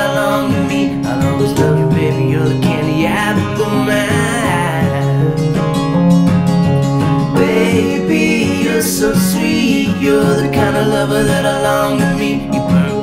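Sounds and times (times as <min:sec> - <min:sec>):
acoustic guitar strumming: 0:00.0 - 0:13.0
keyboard playing country song: 0:00.0 - 0:13.0.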